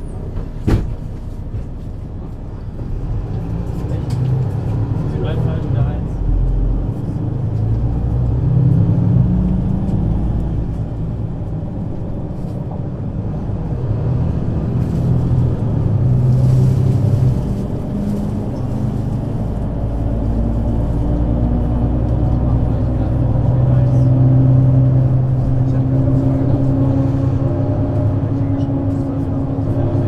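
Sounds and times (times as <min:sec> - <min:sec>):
bus diesel engine pulling: 0:00.0 - 0:30.0.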